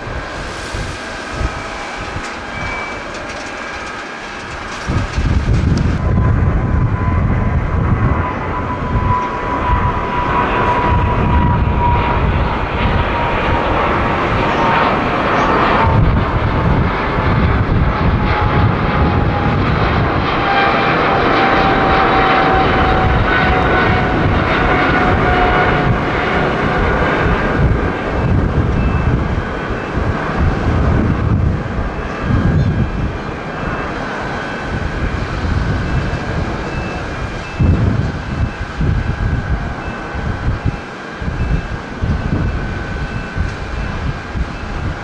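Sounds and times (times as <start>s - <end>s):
jet engines roaring at takeoff: 0.0s - 45.0s.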